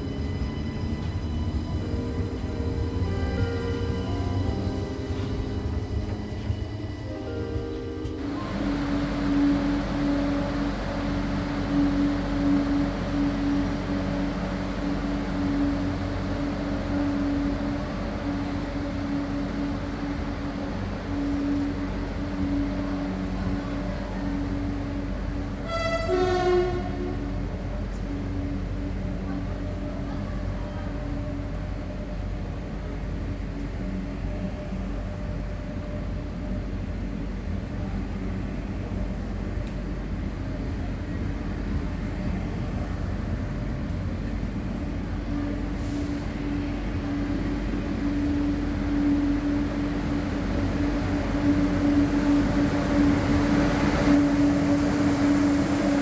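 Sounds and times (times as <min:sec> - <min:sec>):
train humming and rumbling: 0:00.0 - 0:56.0.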